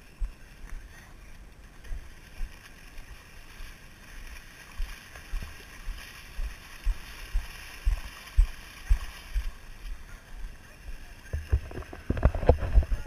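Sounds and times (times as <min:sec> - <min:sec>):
feet splashing through water: 0:00.0 - 0:13.0.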